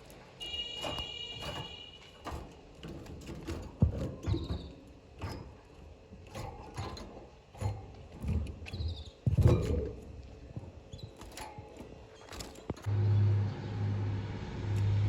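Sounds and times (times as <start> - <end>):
knocks and rattles: 0.0 - 12.9.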